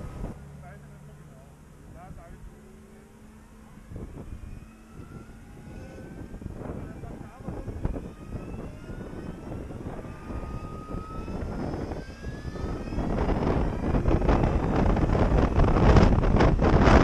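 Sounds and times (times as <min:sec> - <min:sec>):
wind rushing over microphone: 0:00.0 - 0:00.4, 0:03.6 - 0:17.0
electric motor whine: 0:00.0 - 0:17.0.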